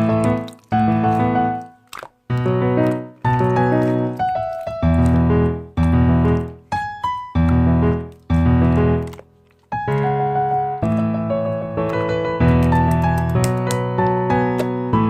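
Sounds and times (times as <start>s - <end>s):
piano chords ringing: 2.4s - 15.0s.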